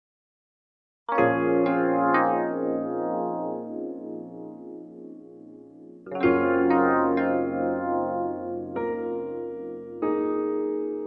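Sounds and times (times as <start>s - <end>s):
synthesizer chord: 1.1s - 11.0s.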